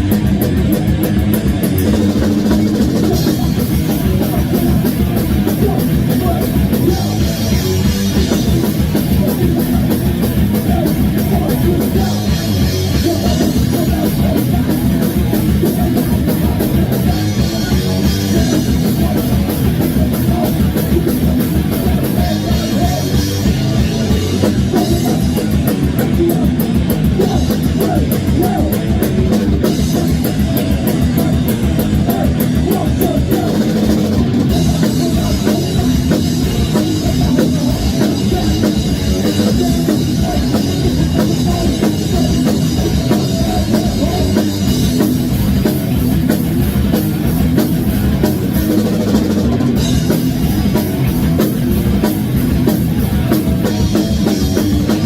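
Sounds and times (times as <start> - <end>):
distorted electric guitars: 0.0 - 55.0
fast loud drum kit: 0.0 - 55.0.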